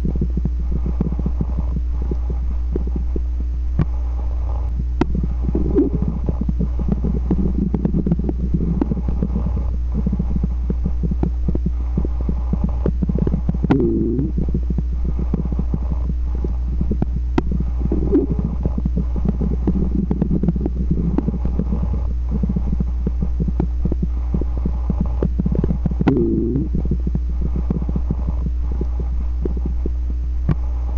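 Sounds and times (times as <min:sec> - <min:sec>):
steady low hum: 0:00.0 - 0:30.9
stomach growling and gurgling: 0:00.0 - 0:30.9.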